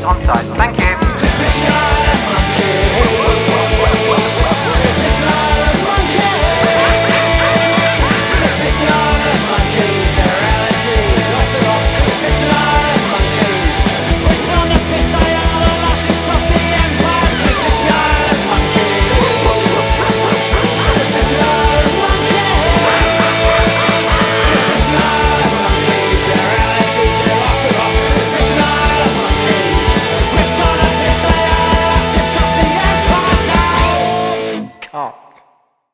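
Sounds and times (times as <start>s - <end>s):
driving drum beat: 0.0s - 34.6s
punk rock band music: 0.0s - 35.0s.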